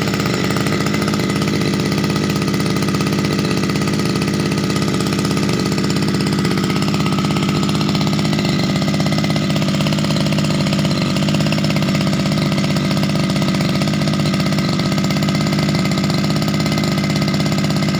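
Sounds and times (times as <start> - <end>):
brush cutter engine running: 0.0 - 17.9.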